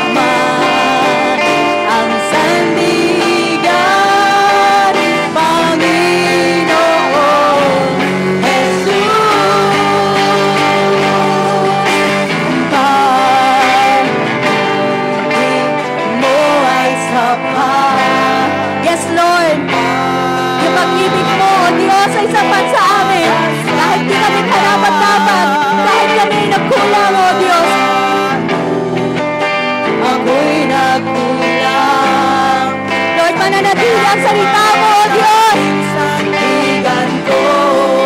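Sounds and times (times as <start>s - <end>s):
band playing worship music: 0.0s - 38.0s
voices singing praise song: 0.0s - 38.0s.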